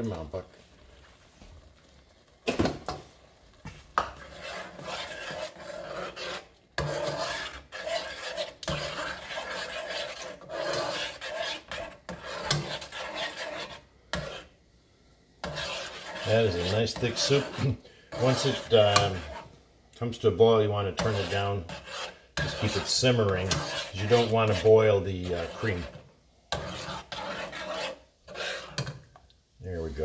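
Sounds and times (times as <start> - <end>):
spoon stirring soup in pot: 2.6 - 14.6, 15.4 - 29.4.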